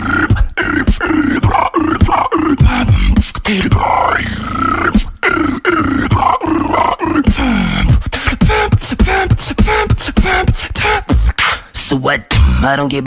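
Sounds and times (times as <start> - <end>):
beatboxed percussive clicks: 0.0 - 11.7
beatboxing vocal tones: 0.0 - 13.0.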